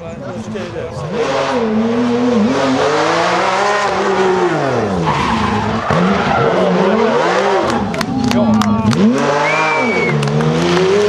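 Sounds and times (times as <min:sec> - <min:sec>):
rally car engine revving: 0:00.0 - 0:11.0
tyres skidding: 0:00.0 - 0:11.0.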